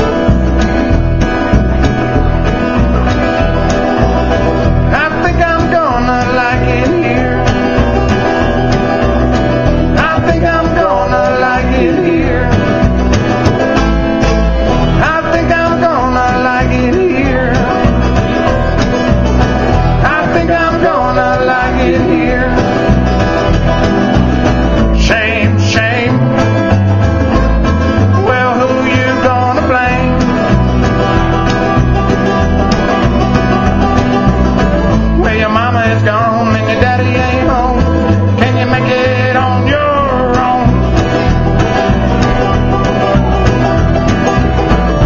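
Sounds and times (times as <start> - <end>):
mandolin: 0.0 - 45.0
strummed acoustic guitar: 0.0 - 45.0
upright bass: 0.0 - 45.0.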